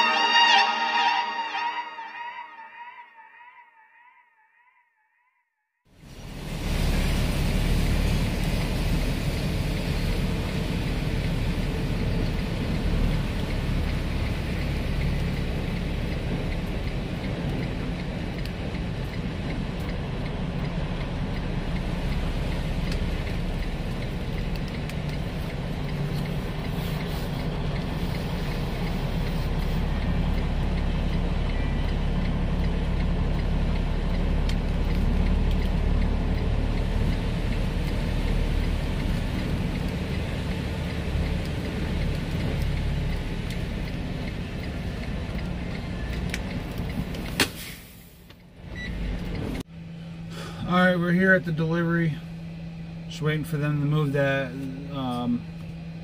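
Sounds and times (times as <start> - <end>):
truck engine and road noise: 5.9 - 56.0.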